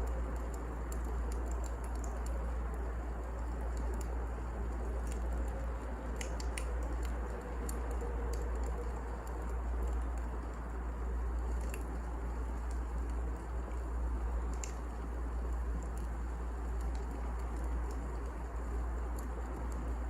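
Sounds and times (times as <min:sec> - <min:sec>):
fire popping and snapping: 0:00.0 - 0:20.0
steady hiss and low rumble: 0:00.0 - 0:20.0
wood fire crackling: 0:00.0 - 0:20.0.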